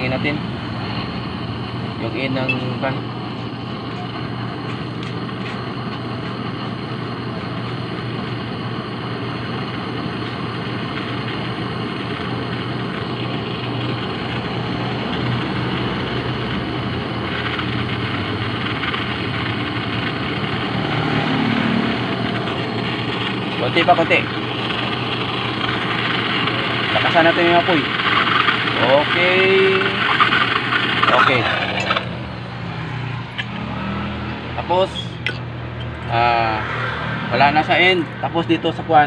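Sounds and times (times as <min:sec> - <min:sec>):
torch flame hissing: 0:00.0 - 0:35.1
low hum: 0:00.0 - 0:36.1.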